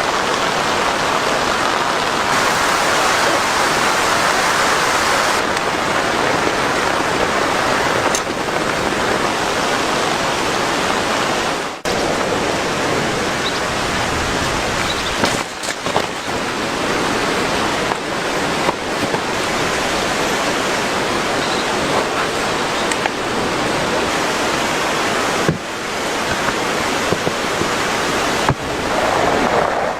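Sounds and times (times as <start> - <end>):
heavy rain hissing: 0.0 - 29.9.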